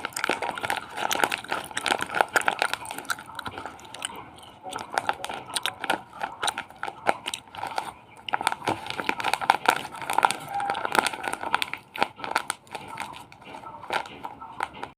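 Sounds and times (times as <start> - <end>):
plastic crinkling: 0.0 - 14.9.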